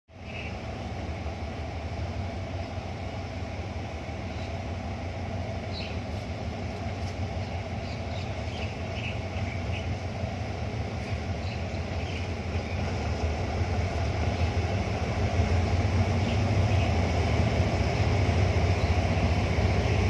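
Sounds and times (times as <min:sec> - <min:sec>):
locomotive engine droning: 0:00.1 - 0:20.0.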